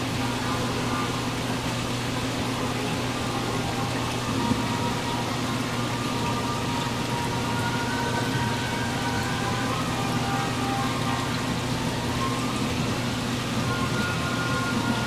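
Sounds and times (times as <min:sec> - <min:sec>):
aquarium pump humming: 0:00.0 - 0:15.0
water bubbling and splashing: 0:00.0 - 0:15.0.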